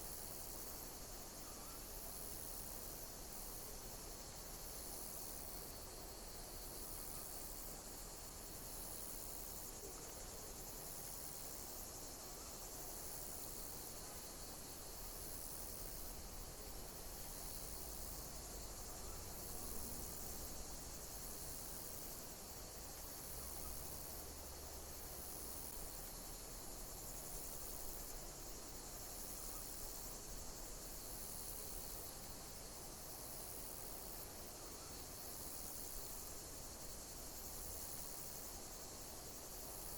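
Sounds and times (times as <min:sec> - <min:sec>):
insect song hiss: 0:00.0 - 0:39.9.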